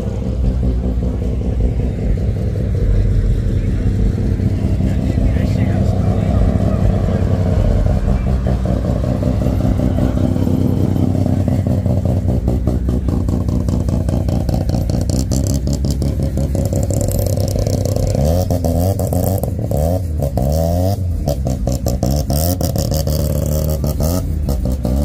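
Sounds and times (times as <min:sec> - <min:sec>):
vehicle engine running and revving: 0:00.0 - 0:25.0.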